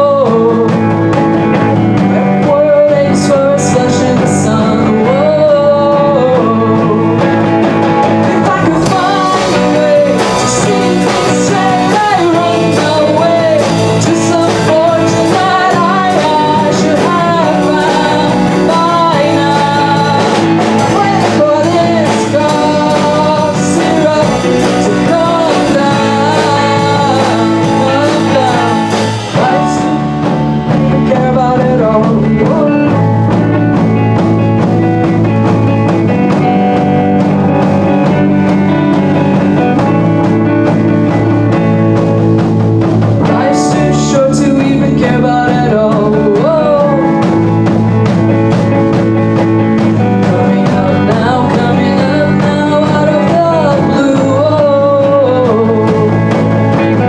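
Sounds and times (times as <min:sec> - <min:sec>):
bass guitar: 0:00.0 - 0:57.0
drum kit: 0:00.0 - 0:57.0
electric guitars: 0:00.0 - 0:57.0
lead vocal singing: 0:00.0 - 0:57.0.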